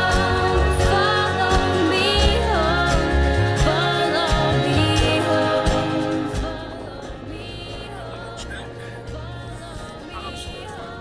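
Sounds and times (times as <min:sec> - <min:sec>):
song with vocals and drums: 0:00.0 - 0:11.0.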